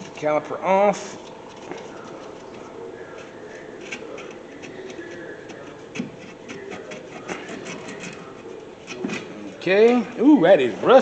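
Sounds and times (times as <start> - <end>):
light metal clicks and scrapes: 1.0 - 10.2.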